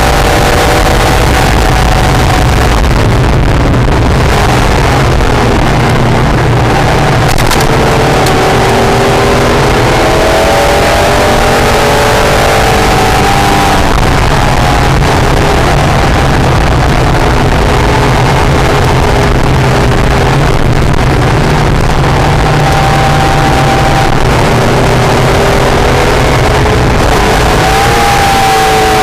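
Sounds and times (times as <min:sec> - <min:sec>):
race car engine at speed: 0:00.0 - 0:29.0
wind noise: 0:00.0 - 0:29.0.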